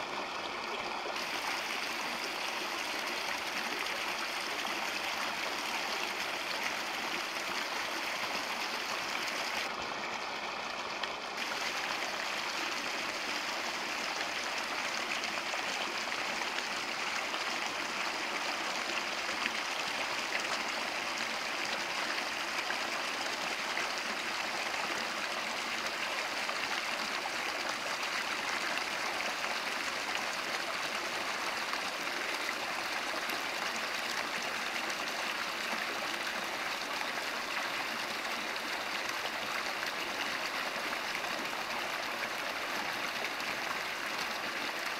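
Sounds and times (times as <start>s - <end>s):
brook water splashing over rocks: 0.0s - 44.9s.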